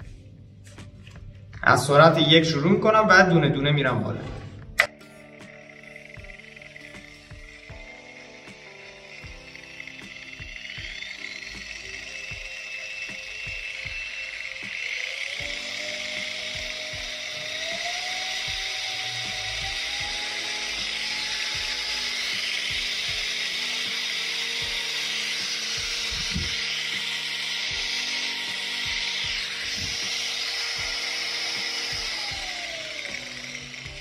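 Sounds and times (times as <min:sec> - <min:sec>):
rotary polisher motor whine: 0:04.8 - 0:34.0.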